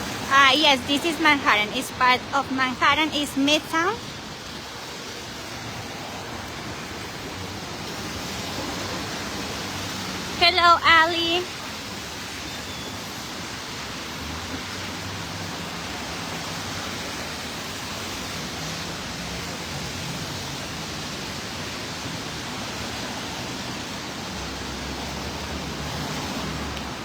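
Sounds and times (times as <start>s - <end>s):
light rain on wet street: 0.0s - 27.0s.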